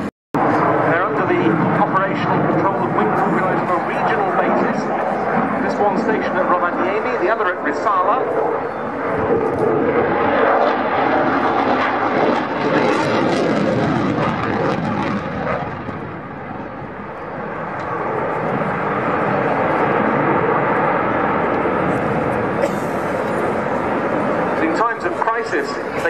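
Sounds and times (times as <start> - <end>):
jet flypast roar: 0.0 - 26.0.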